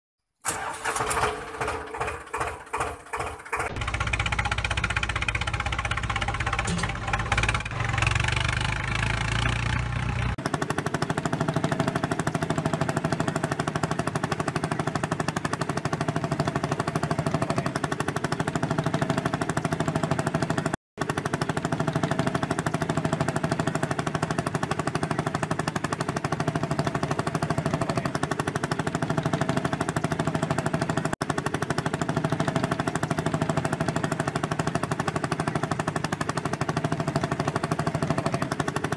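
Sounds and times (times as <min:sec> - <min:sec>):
tractor engine running: 0:00.4 - 0:38.9.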